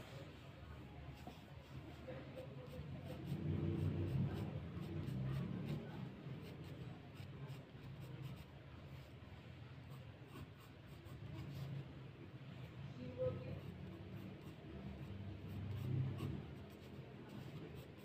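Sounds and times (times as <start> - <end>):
pencil scratching on paper: 1.1 - 12.0, 13.2 - 18.0.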